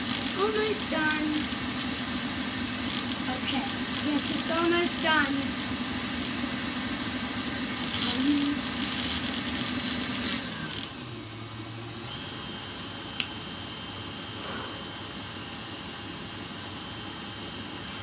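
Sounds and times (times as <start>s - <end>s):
electric mixer running: 0.0s - 18.0s.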